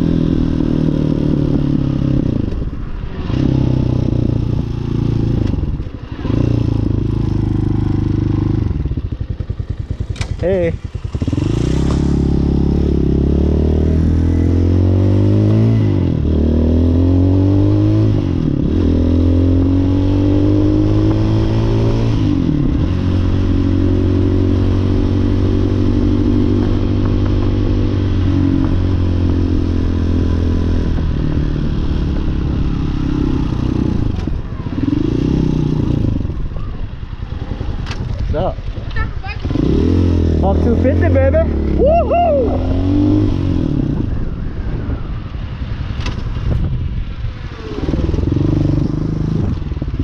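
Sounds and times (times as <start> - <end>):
motorcycle engine shifting gears: 0.0 - 41.8, 42.4 - 50.0.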